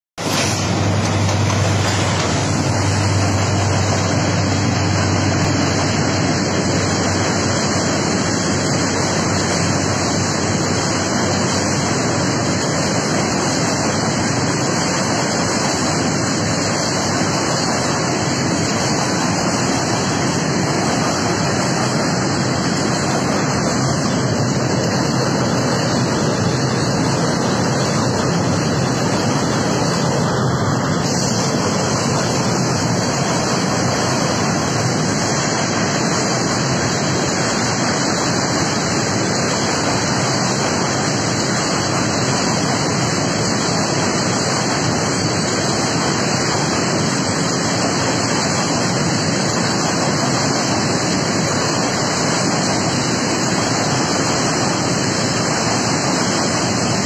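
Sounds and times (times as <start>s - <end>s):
diesel locomotive hum: 0.2s - 57.0s
train rolling across bridge: 0.2s - 57.0s.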